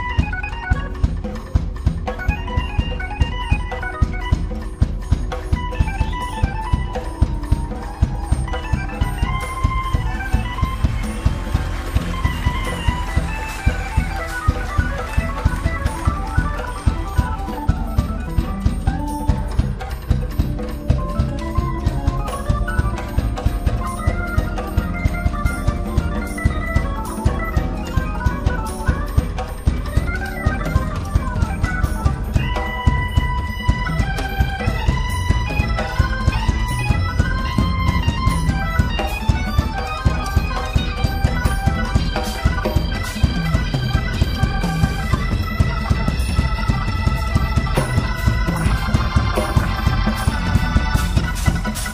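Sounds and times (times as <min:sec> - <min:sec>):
bass: 0:00.0 - 0:51.9
drum kit beat: 0:00.0 - 0:51.9
electric guitar: 0:00.0 - 0:51.9
hammond organ solo: 0:00.0 - 0:51.9
keyboards: 0:00.0 - 0:51.9.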